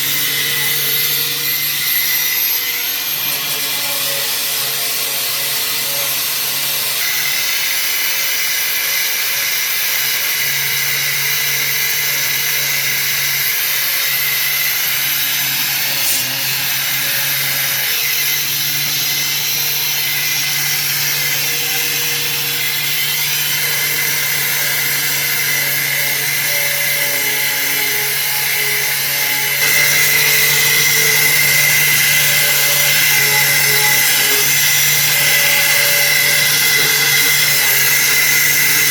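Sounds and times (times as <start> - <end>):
power tool grinding metal: 0.0 - 38.9.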